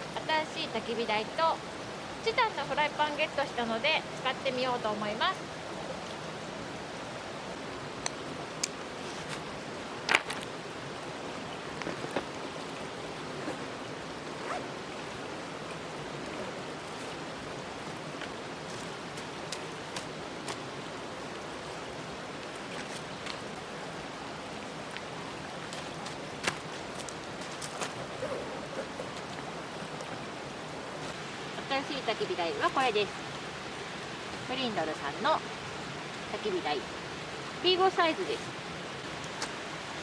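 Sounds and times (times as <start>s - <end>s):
steady rushing outdoor noise: 0.0s - 40.0s.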